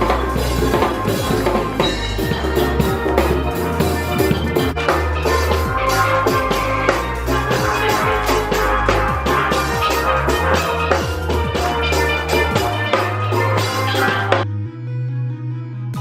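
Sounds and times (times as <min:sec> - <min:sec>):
drum kit beat: 0:00.0 - 0:14.4
steel drums: 0:00.0 - 0:14.4
bass line: 0:00.0 - 0:16.0.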